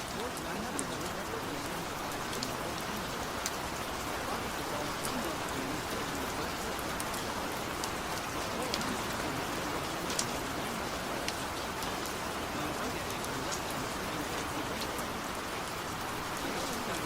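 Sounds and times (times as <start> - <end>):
faint voice murmuring: 0.0 - 17.0
steady rain: 0.0 - 17.0.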